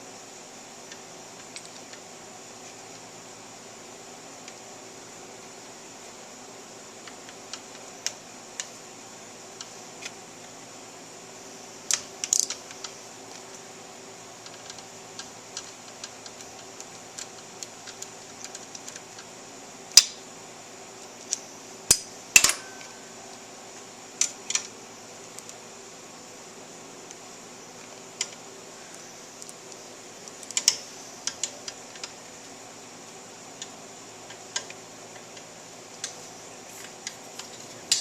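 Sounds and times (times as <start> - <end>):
steady hiss: 0.0 - 38.0.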